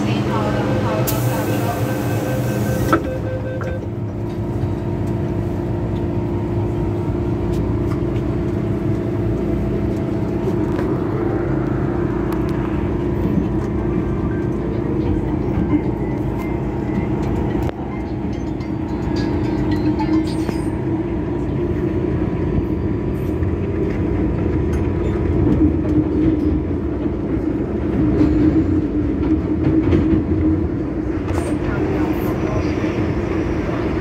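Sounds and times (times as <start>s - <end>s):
train interior hum: 0.0s - 34.0s
wheel-on-rail rumble: 0.0s - 34.0s.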